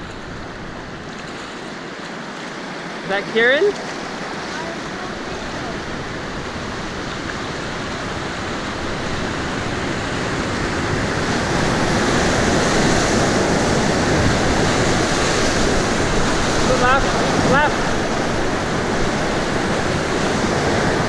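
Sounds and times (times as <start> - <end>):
whitewater rapids roaring: 0.0 - 21.0.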